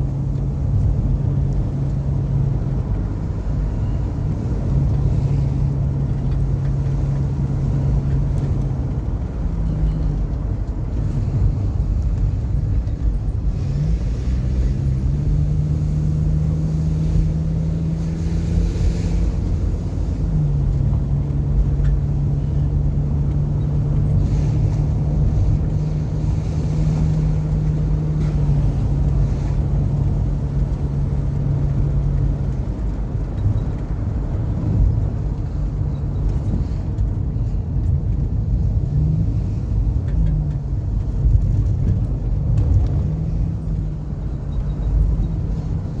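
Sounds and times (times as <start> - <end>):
car engine hum: 0.0 - 46.0
road and tyre rumble: 0.0 - 46.0.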